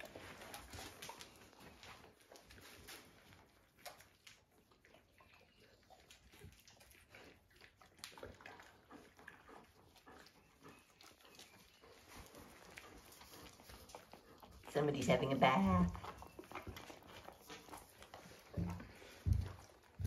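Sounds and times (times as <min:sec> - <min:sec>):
dog licking puppies: 0:00.0 - 0:20.0.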